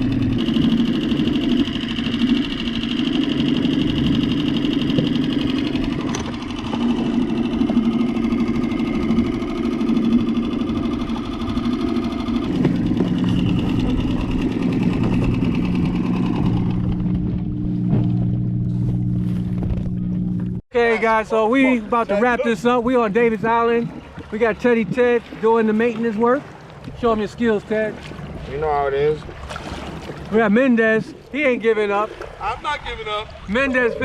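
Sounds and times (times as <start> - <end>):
outboard motor running: 0.0 - 34.0
wind: 0.0 - 34.0.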